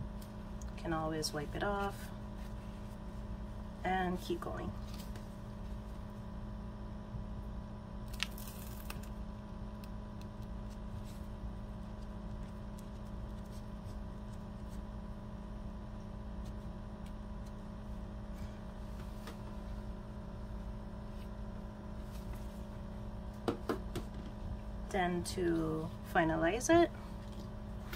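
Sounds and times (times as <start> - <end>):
background hum: 0.0 - 27.9.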